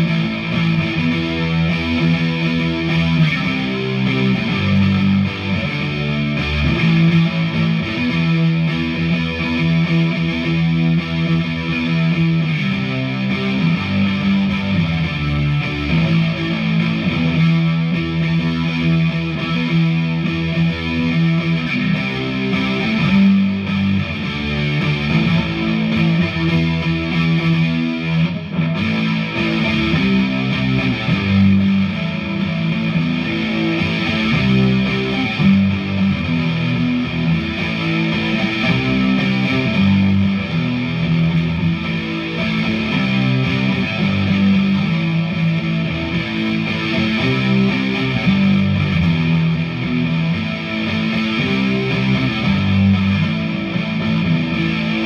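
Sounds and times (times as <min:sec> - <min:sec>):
distorted electric guitar riffing: 0:00.0 - 0:55.0.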